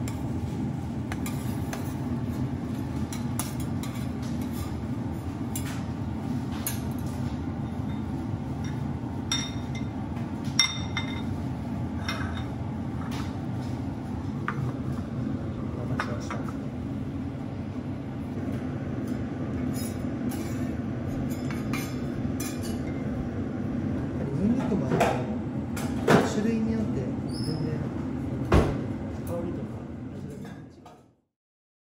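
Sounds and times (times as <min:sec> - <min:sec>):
steady low hum: 0:00.0 - 0:30.8.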